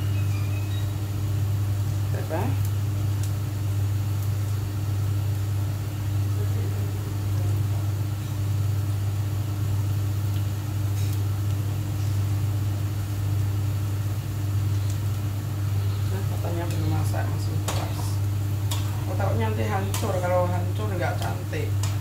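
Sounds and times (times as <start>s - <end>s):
extractor fan humming: 0.0s - 22.0s.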